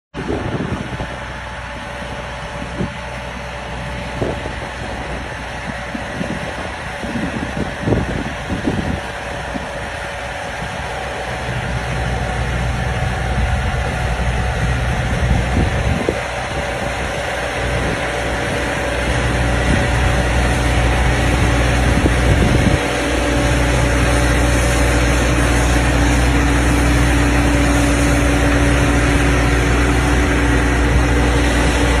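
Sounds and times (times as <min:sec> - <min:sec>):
tractor diesel engine under load: 0:00.1 - 0:32.0.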